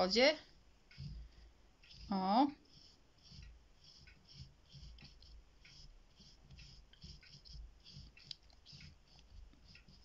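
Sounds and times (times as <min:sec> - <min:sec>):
brush swishing on paper: 0:01.9 - 0:10.0.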